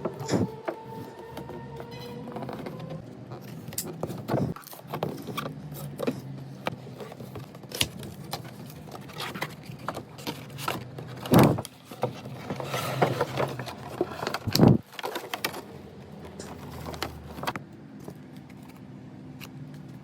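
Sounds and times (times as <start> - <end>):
plastic packaging rustling: 0.0 - 18.9.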